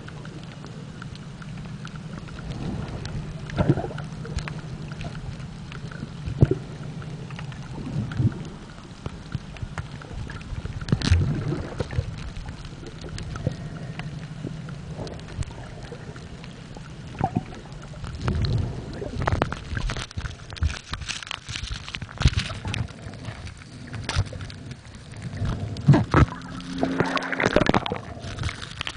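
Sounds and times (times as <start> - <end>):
low underwater drone: 0.0 - 28.9
water sloshing: 0.0 - 28.9.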